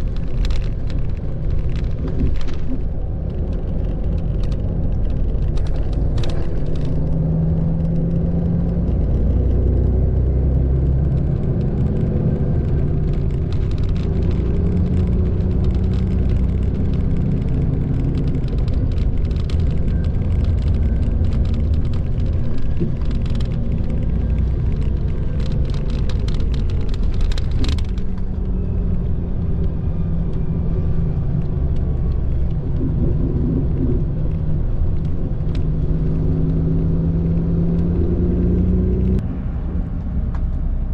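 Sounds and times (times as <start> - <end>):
tyre and road noise: 0.0 - 40.9.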